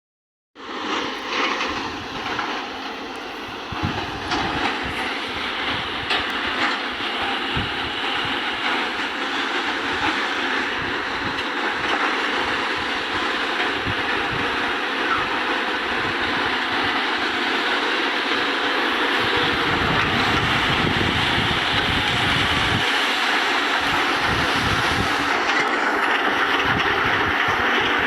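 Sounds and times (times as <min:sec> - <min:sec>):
excavator running: 0:00.6 - 0:28.0.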